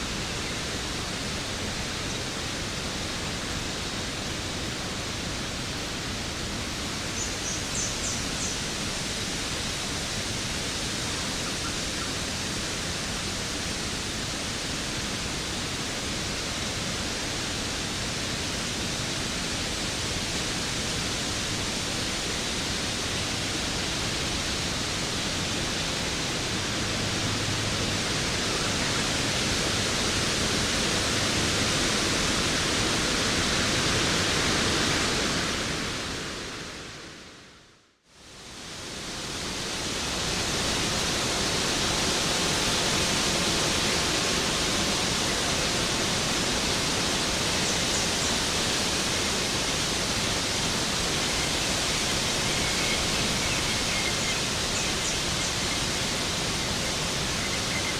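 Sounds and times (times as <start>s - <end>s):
waterfall rushing: 0.0s - 37.2s, 38.5s - 57.9s.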